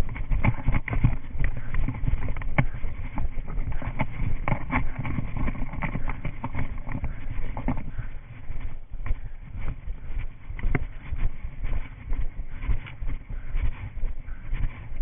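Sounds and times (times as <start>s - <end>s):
camera jostling: 0.0s - 15.0s.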